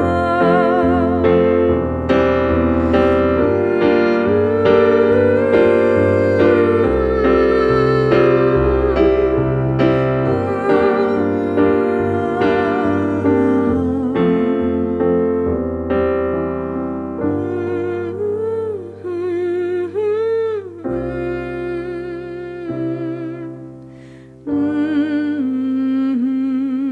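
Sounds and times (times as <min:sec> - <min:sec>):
deep bass: 0:00.0 - 0:23.4
wavering melody line: 0:00.0 - 0:23.4
keyboard chords: 0:00.0 - 0:26.1.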